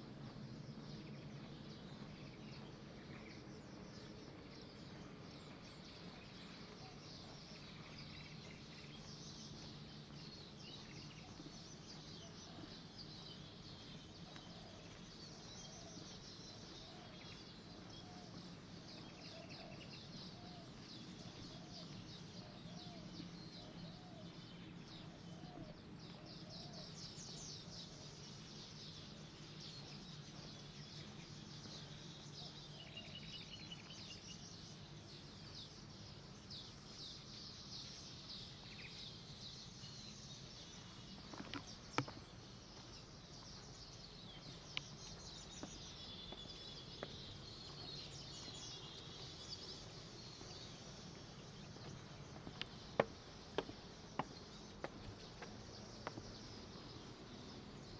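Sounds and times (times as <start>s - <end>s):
birds chirping and twittering: 0.0s - 57.9s
faint steady low hum: 0.0s - 57.9s.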